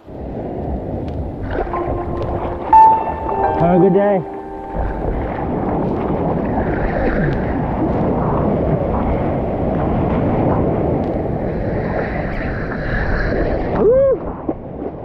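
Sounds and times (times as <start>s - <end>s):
seawater rushing and splashing: 0.0s - 15.0s.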